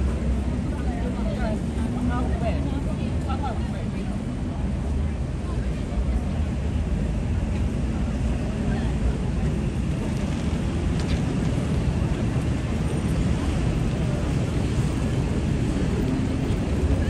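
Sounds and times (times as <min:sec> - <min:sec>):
faint voices: 0:00.0 - 0:17.0
traffic rumble: 0:00.0 - 0:17.0.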